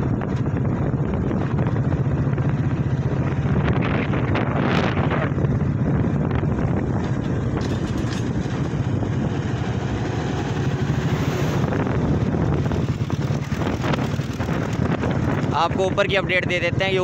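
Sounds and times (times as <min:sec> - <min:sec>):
motorbike engine running: 0:00.0 - 0:17.0
wind rumble on microphone: 0:00.0 - 0:17.0.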